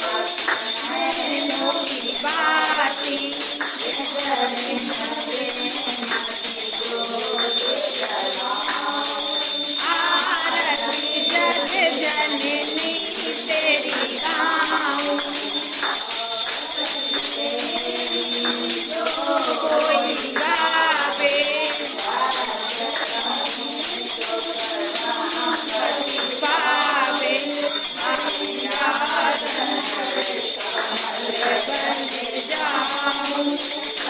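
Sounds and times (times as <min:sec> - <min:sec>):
jingling percussion beat: 0:00.0 - 0:34.0
person singing devotional song: 0:00.0 - 0:34.0.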